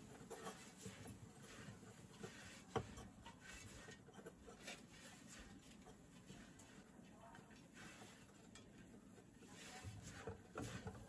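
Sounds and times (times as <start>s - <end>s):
leaves rustling against iron pot: 0.0s - 11.0s.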